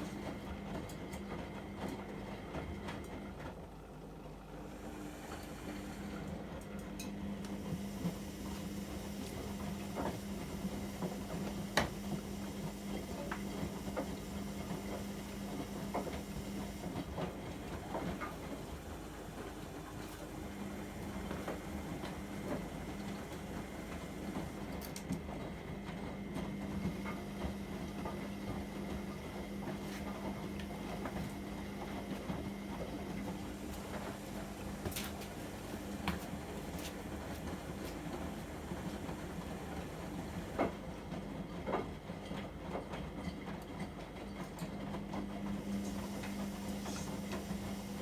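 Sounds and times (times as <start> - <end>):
washing machine motor humming: 0.0 - 48.0.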